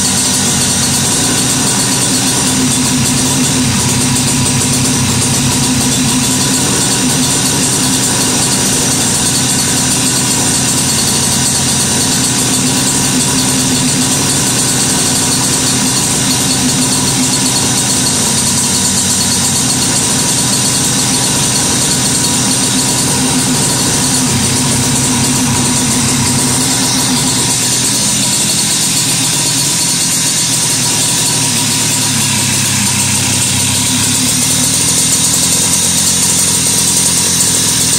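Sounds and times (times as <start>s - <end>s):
moped engine running: 0.0s - 37.9s.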